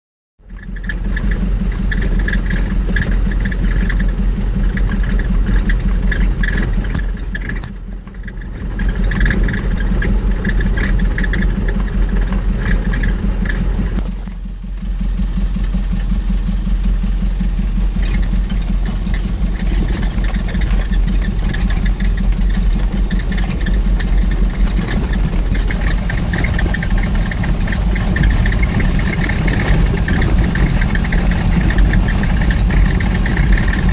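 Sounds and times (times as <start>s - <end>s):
engine rumble: 0.4s - 33.9s
rattling gravel road noise: 0.4s - 33.9s.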